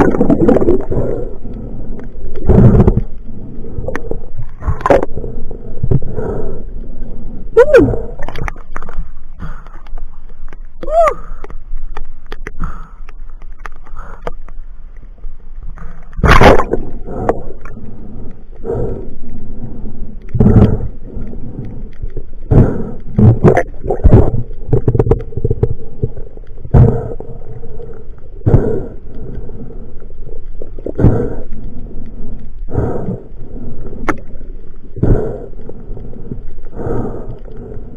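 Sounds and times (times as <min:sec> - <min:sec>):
muffled water sloshing: 0:00.0 - 0:36.7
steady low rumble: 0:00.0 - 0:37.9.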